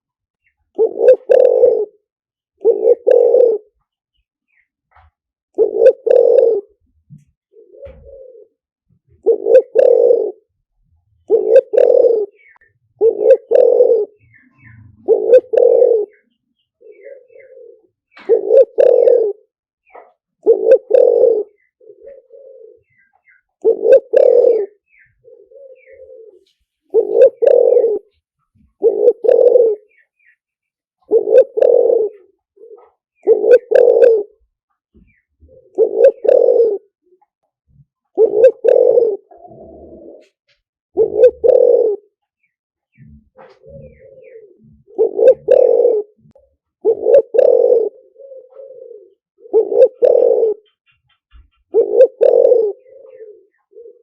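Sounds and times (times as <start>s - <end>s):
dove cooing: 0.5s - 3.9s, 4.5s - 30.4s, 31.0s - 54.0s.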